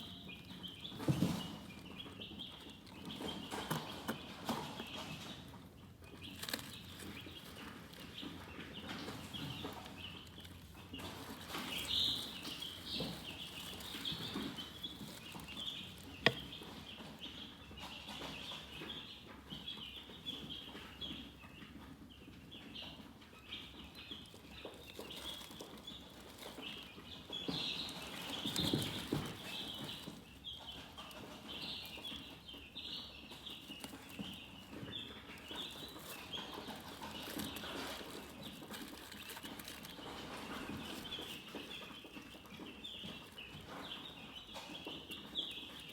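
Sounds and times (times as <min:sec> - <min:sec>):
chickens peeping: 0:00.0 - 0:45.9.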